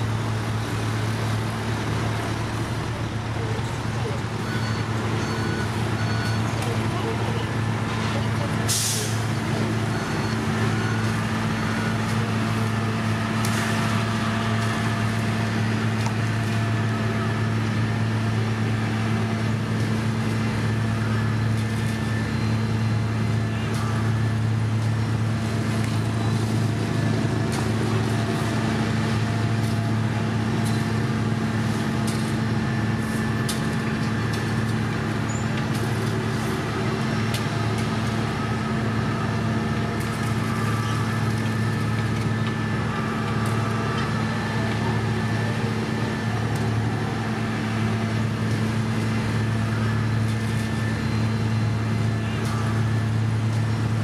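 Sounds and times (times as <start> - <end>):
diesel engines humming: 0.0 - 54.0.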